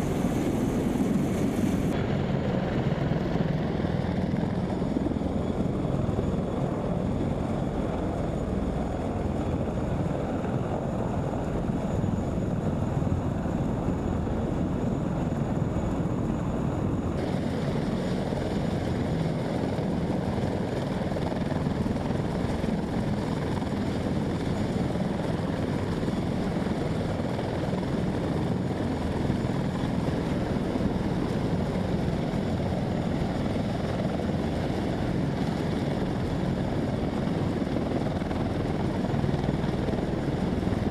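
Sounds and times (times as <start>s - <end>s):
military aircraft engines running: 0.0s - 40.9s.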